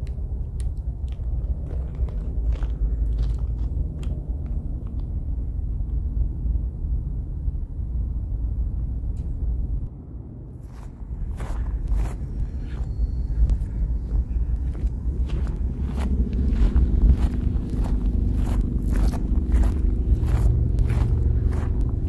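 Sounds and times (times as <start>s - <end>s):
crunching sounds: 0.0s - 9.9s, 14.2s - 22.0s.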